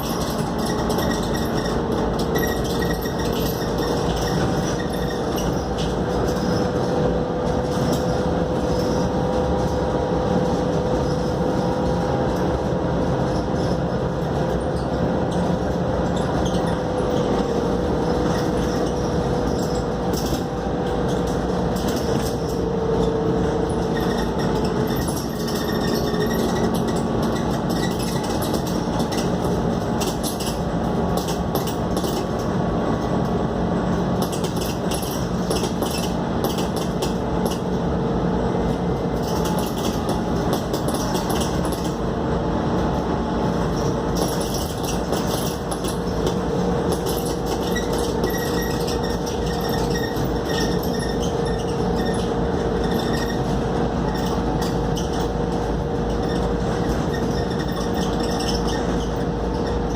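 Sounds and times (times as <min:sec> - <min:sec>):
bodywork rattles: 0:00.0 - 0:42.2, 0:42.8 - 0:59.9
bus engine running: 0:00.0 - 0:59.9
road noise: 0:00.0 - 0:59.9.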